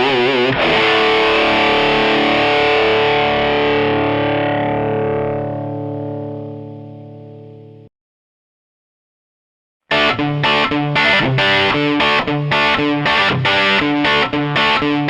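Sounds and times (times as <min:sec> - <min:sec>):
distorted electric guitar: 0:00.0 - 0:07.9, 0:09.9 - 0:15.0.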